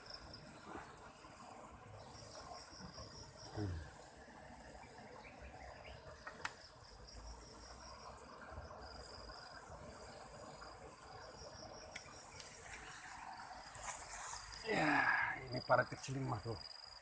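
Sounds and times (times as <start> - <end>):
insects chirping in trills: 0.0 - 17.0.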